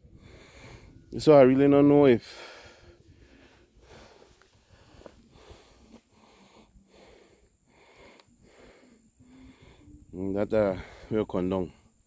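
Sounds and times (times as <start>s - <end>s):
man breathing heavily: 0.0s - 12.0s.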